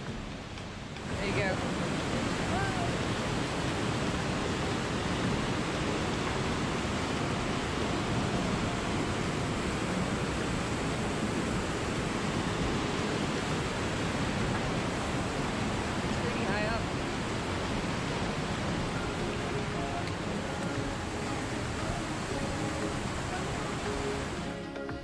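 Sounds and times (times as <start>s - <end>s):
river rushing through gorge: 0.0s - 25.0s.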